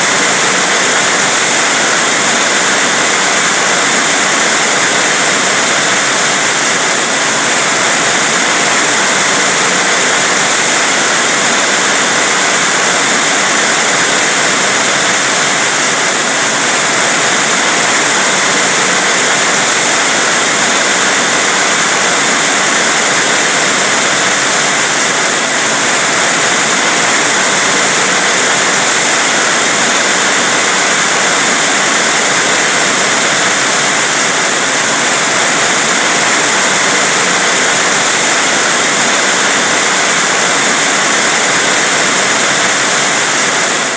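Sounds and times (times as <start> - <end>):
heavy rain hissing: 0.0 - 43.9.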